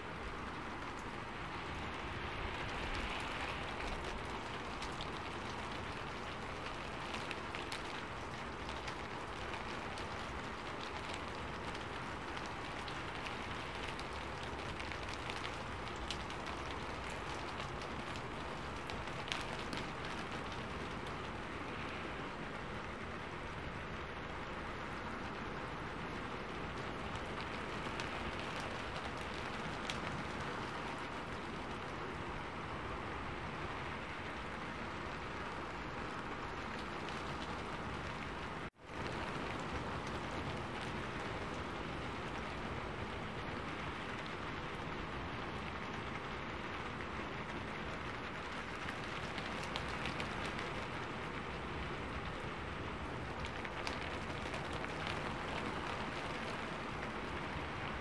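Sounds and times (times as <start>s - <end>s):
rain hissing: 0.0s - 58.0s
raindrops tapping surfaces: 0.0s - 58.0s.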